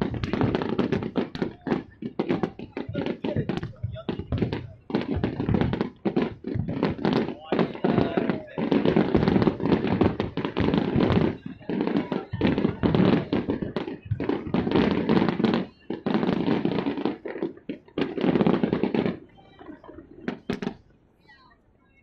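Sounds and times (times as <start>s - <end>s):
firework shells bursting: 0.0s - 20.8s.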